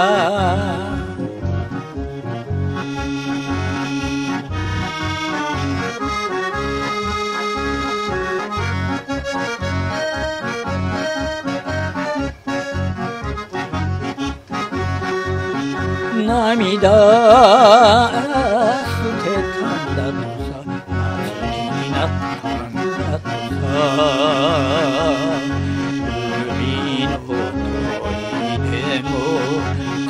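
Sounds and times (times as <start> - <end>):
accordion melody: 0.0 - 30.0.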